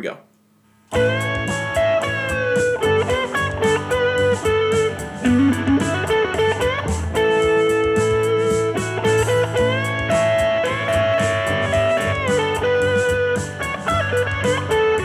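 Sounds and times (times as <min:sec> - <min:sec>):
backing track with beat and bass: 0:00.8 - 0:15.0
electric guitar blues solo: 0:00.9 - 0:15.0.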